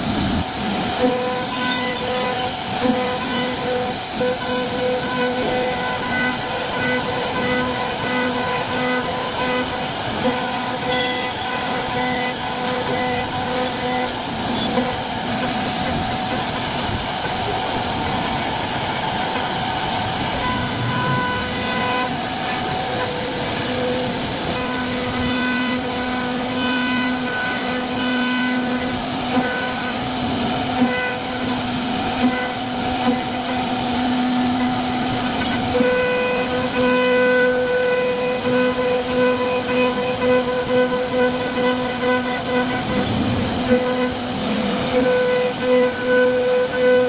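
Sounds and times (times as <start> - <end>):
hiss of wood cutting: 0.0 - 47.0
router whining hum: 0.0 - 47.0.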